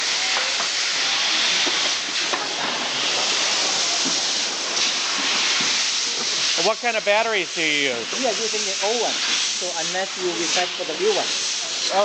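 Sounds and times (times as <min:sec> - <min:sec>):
steady hissing background noise: 0:00.0 - 0:12.0.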